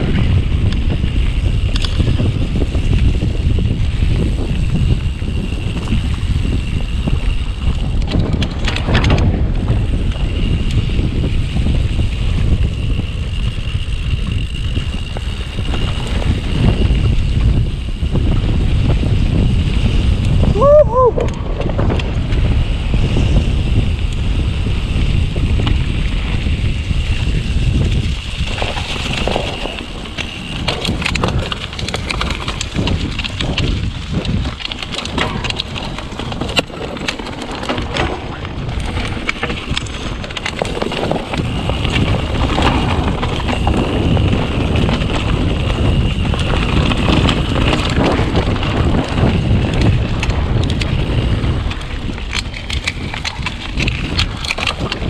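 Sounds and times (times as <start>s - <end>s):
bike knocking and rattling: 0.0s - 55.0s
wind on microphone: 0.0s - 55.0s.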